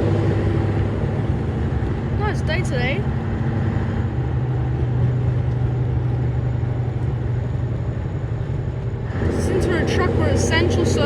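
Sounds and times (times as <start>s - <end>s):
diesel truck engine running: 0.0s - 11.0s
road noise: 0.0s - 11.0s.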